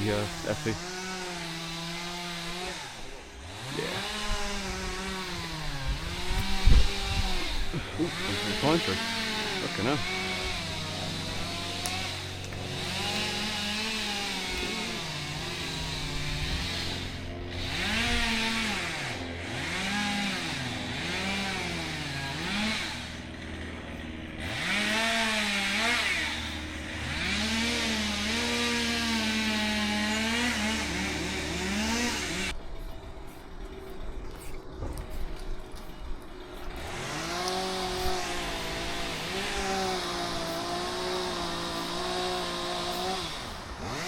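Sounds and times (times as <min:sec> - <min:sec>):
chainsaw revving and cutting: 0:00.0 - 0:44.0.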